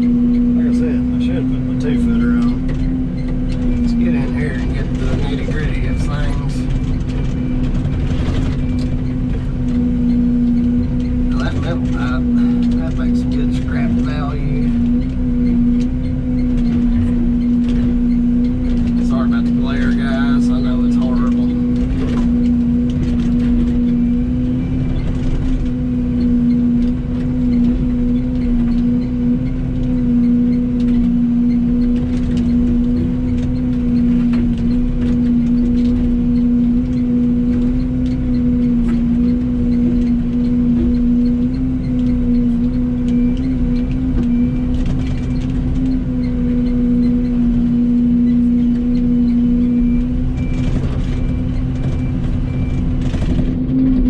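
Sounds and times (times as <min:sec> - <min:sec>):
excavator engine and hydraulic hum: 0:00.0 - 0:54.0.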